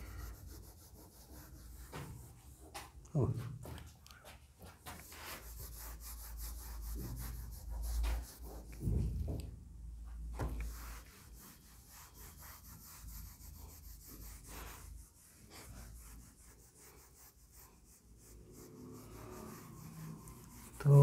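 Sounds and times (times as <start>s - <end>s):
duster rubbing whiteboard: 0.0s - 3.0s, 4.7s - 9.5s, 10.3s - 21.0s.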